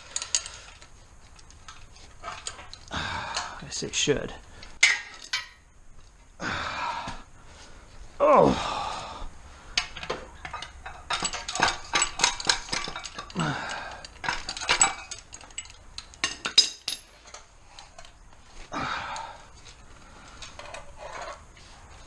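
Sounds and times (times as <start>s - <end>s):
hand tools clinking on metal: 0.0s - 5.6s, 9.8s - 22.0s.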